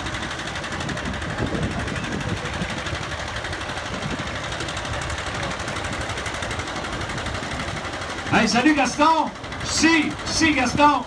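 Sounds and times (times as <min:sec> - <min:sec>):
tractor engine under load: 0:00.0 - 0:11.0.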